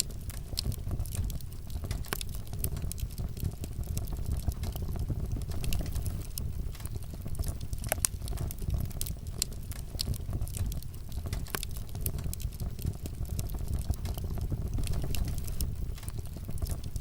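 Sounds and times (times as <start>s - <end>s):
fire crackling and popping: 0.0s - 17.0s
low rumble of flame: 0.0s - 17.0s.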